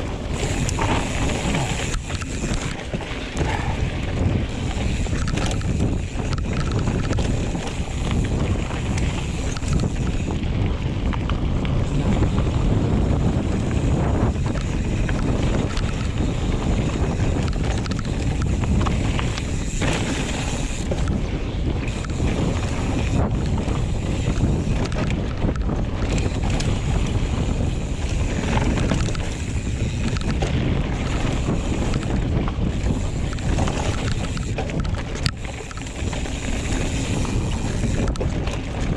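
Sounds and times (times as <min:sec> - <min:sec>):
bike knocks and rattles: 0:00.0 - 0:38.9
tyres rumbling on dirt trail: 0:00.0 - 0:38.9
wind buffeting microphone: 0:00.0 - 0:38.9.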